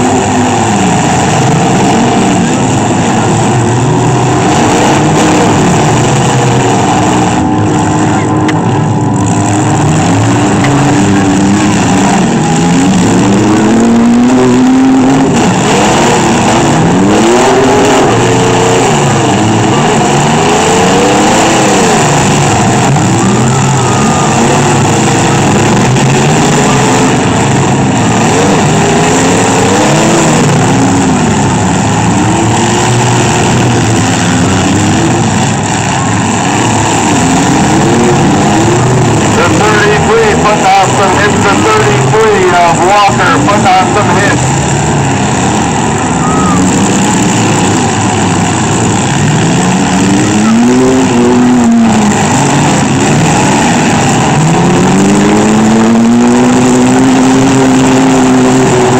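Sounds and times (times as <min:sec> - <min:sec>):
vehicle engines revving: 0:00.0 - 0:58.9.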